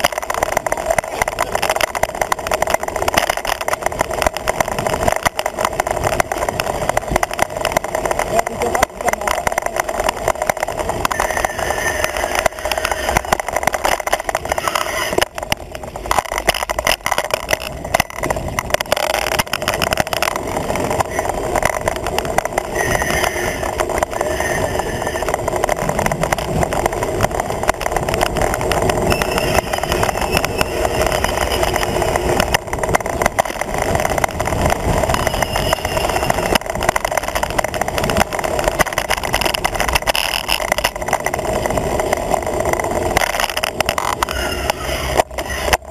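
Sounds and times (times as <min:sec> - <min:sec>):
tyre and road noise: 0:00.0 - 0:45.9
wind rushing over microphone: 0:00.0 - 0:45.9.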